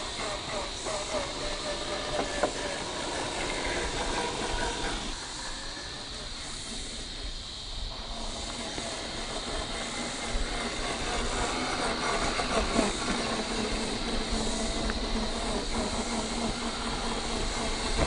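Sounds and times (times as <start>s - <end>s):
electric motor and gears whining: 0.0s - 18.0s
steady hiss: 0.0s - 18.0s.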